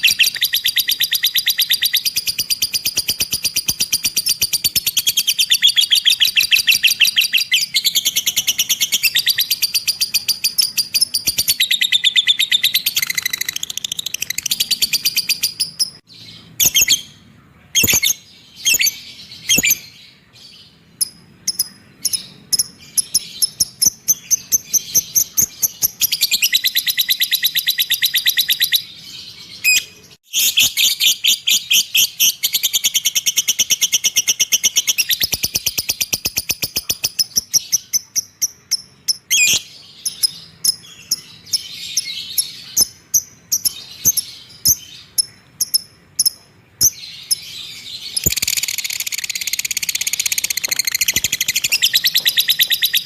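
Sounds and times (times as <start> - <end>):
cage bird singing with trills: 0.0 - 53.0.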